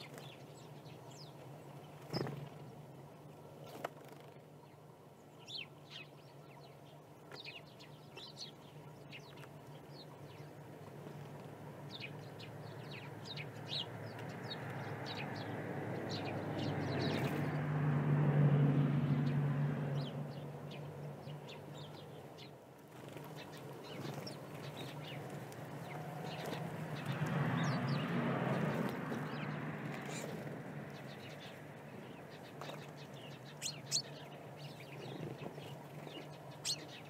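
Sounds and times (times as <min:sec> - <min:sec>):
small birds chirping: 0:00.0 - 0:17.7, 0:19.1 - 0:37.0.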